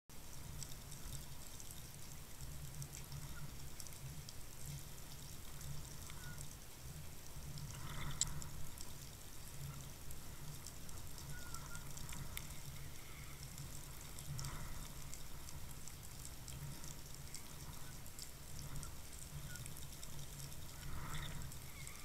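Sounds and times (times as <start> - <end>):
faint ticks and crackles: 0.1 - 22.0
muffled underwater rumble: 0.1 - 22.0.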